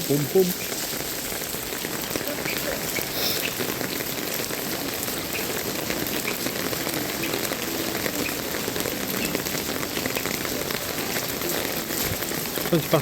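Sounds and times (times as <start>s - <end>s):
pouring rain: 0.0s - 13.0s.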